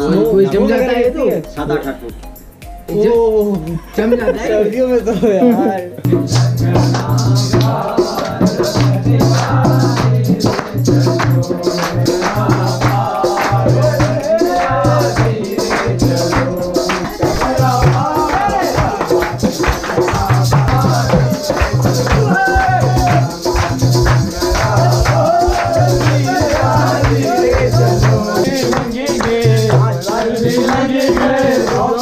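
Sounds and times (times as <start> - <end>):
rhythmic percussion beat: 0.0 - 32.0
men singing folk song: 6.0 - 32.0.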